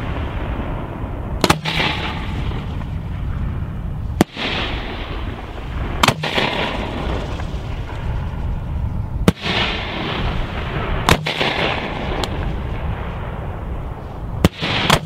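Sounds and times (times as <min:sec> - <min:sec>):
continuous noisy rumble: 0:00.0 - 0:15.0.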